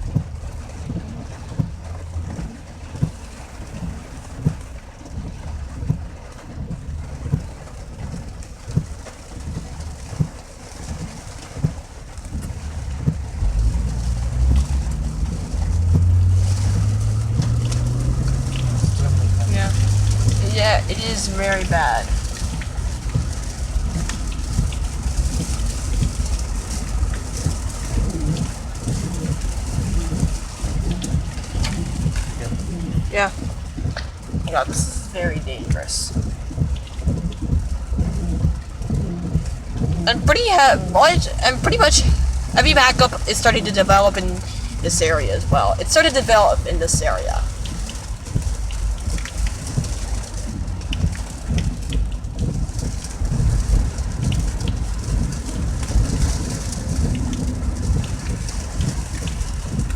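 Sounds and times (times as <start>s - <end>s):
heavy rain on car: 0.0s - 59.9s
low road rumble: 0.0s - 59.9s
windshield wipers thumping: 0.0s - 59.9s.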